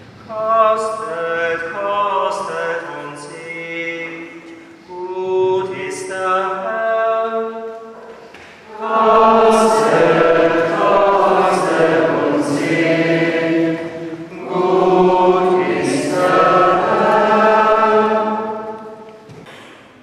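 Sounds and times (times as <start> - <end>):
congregation singing a hymn: 0.3 - 19.4.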